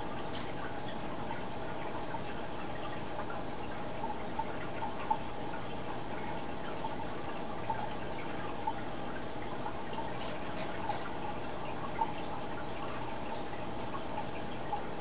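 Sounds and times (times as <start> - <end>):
aquarium filter water trickling: 0.0 - 15.0
faint water drips: 0.0 - 15.0.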